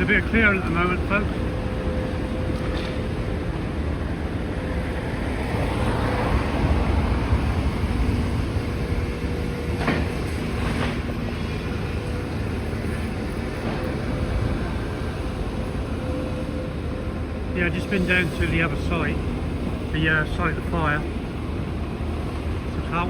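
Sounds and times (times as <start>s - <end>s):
excavator running: 0.0s - 23.0s.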